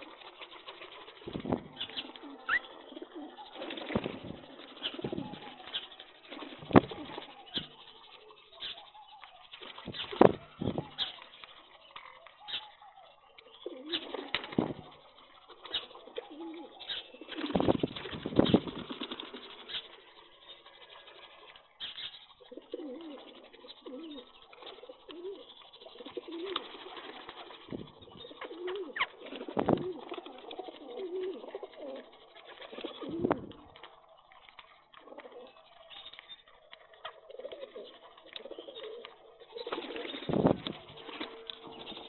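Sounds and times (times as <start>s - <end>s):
beaks pecking grain on concrete: 0.0s - 42.0s
pigeons cooing: 0.0s - 42.0s.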